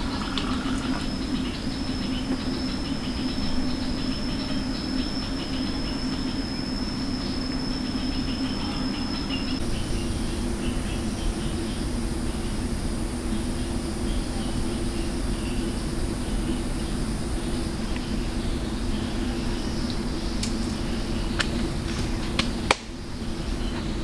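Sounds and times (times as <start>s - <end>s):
faint bird chirps: 0.0s - 22.3s
insect drone: 0.0s - 24.0s.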